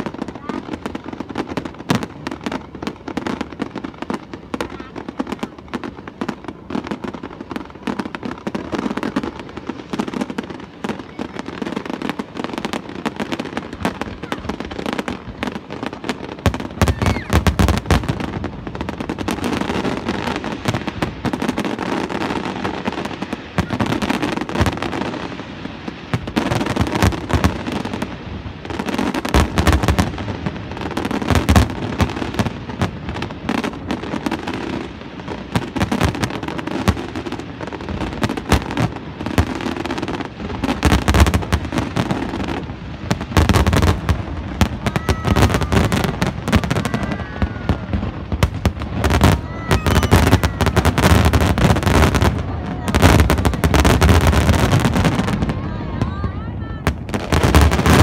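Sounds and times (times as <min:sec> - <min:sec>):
fireworks booming: 0:00.0 - 0:58.0
fireworks crackling: 0:00.0 - 0:58.0.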